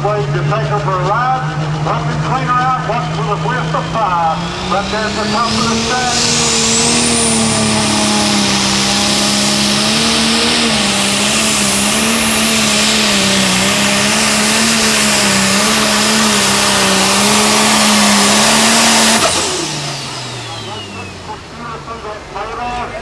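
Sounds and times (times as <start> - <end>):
diesel tractor engine droning: 0.0 - 23.0.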